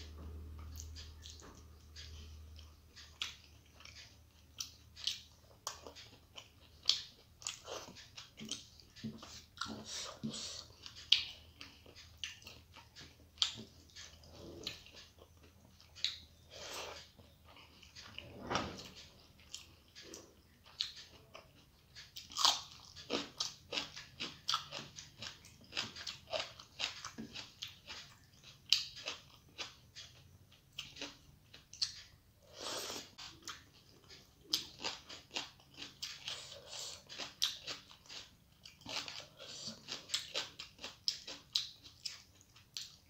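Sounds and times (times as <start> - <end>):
person chewing with wet mouth sounds: 0.0 - 18.3, 18.9 - 43.0.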